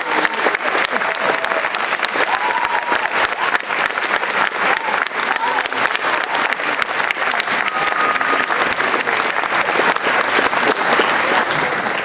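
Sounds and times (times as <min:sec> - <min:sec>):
audience clapping: 0:00.0 - 0:12.0
voices in crowd: 0:00.0 - 0:12.0.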